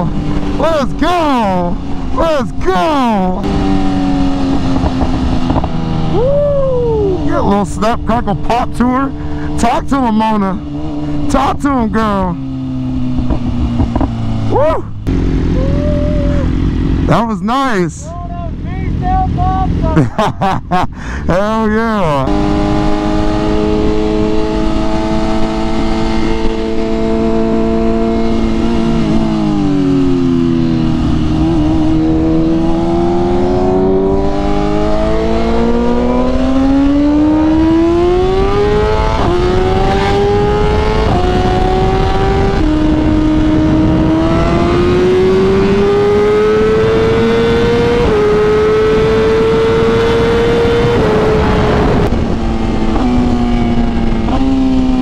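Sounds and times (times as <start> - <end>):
motorcycle engine running: 0.0 - 21.3, 22.3 - 55.0.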